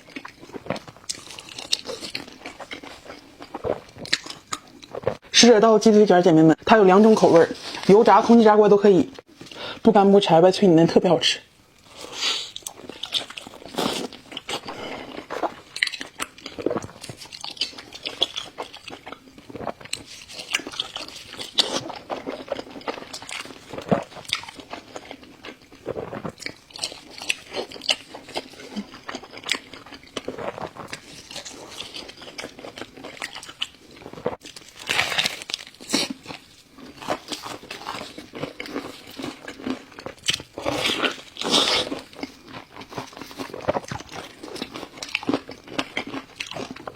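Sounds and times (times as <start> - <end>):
crunchy bites and chewing: 0.0 - 5.3, 11.7 - 46.9.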